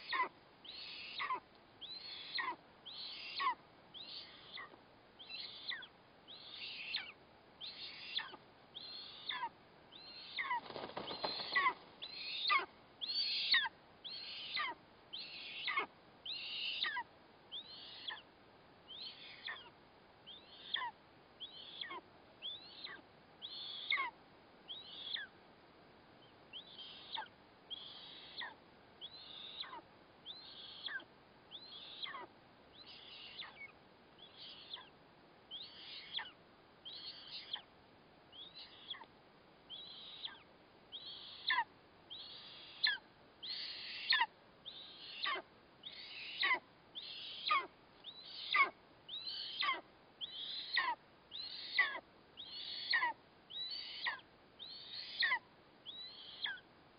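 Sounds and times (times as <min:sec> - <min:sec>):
eagle chick begging calls: 0:00.0 - 0:18.2, 0:18.9 - 0:19.7, 0:20.3 - 0:25.3, 0:26.5 - 0:37.7, 0:38.3 - 0:39.1, 0:39.7 - 0:56.6.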